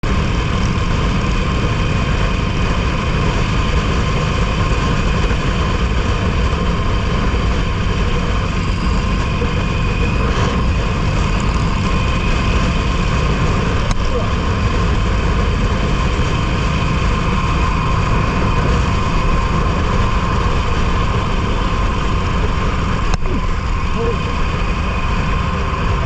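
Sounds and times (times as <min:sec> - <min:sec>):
motorcycle engine running: 0:00.0 - 0:26.0
tyre noise on road: 0:00.0 - 0:26.0
wind rumble on microphone: 0:00.0 - 0:26.0.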